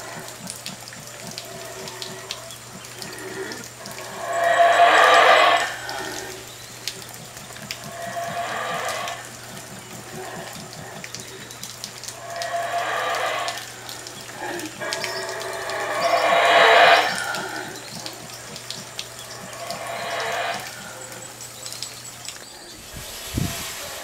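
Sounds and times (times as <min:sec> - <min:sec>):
howler monkey roaring: 0:00.0 - 0:21.8.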